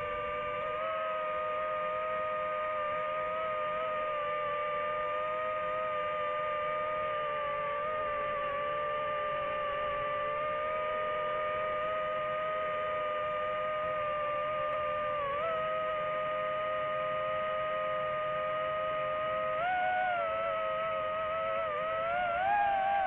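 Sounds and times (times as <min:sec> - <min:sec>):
drone propeller motors whining: 0:00.0 - 0:23.0.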